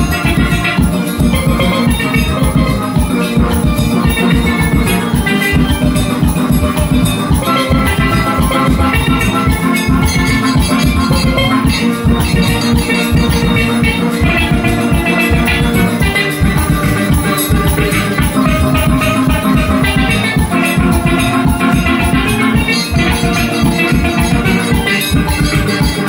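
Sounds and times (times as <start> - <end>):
drum and percussion rhythm: 0.0 - 26.0
steel pans playing melody: 0.0 - 26.0.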